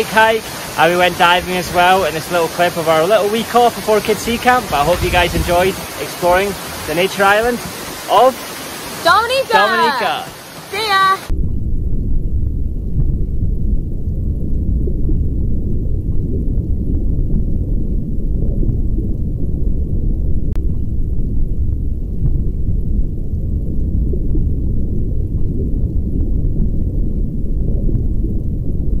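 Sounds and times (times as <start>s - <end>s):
muffled underwater water rumble: 0.0s - 29.0s.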